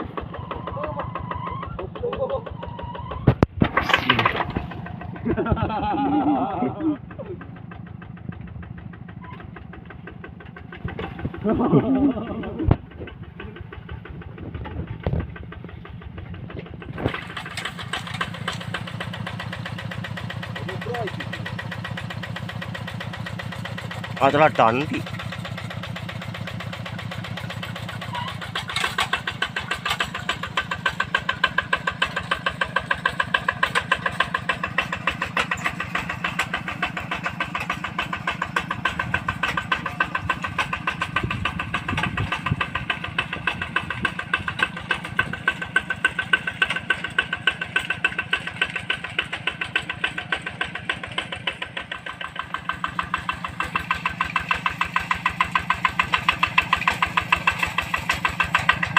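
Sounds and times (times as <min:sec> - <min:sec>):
tractor diesel engine chugging: 0:00.0 - 0:58.9.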